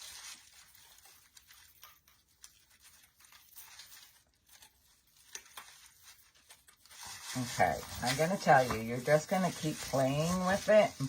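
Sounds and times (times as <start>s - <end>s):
artificial leaves rustling: 0.0s - 11.0s.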